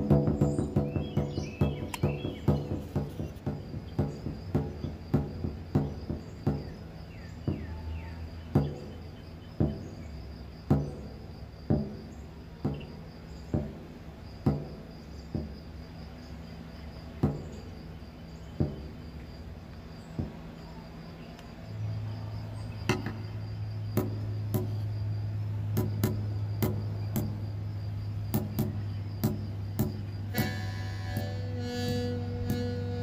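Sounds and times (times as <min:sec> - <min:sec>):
sharp ringing knocks: 0:00.0 - 0:19.4, 0:22.8 - 0:31.5
high-pitched insect trill: 0:00.0 - 0:33.0.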